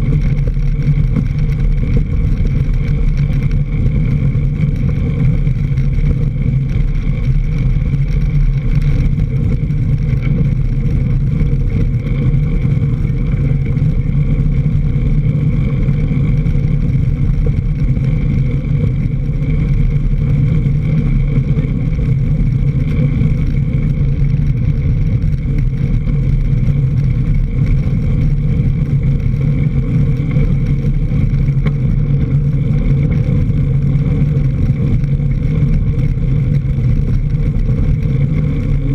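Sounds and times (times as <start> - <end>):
bike tyres rolling on dirt: 0.0 - 38.9
wind on microphone: 0.0 - 38.9.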